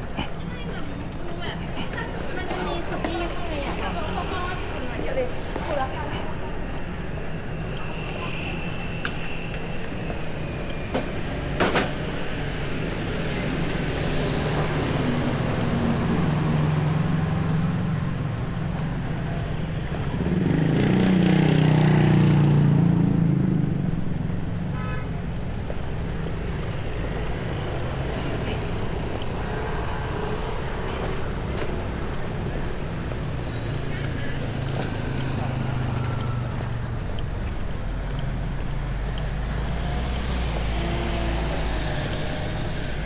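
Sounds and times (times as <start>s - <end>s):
street traffic rumble: 0.0s - 43.0s.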